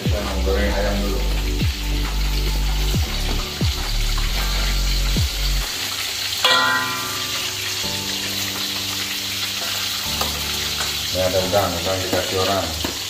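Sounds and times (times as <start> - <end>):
chicken frying in a wok: 0.0 - 13.0.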